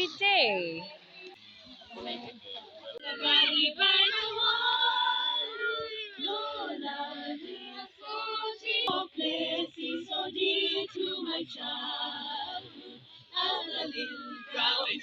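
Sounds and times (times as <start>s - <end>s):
group singing a hymn: 1.8s - 15.0s.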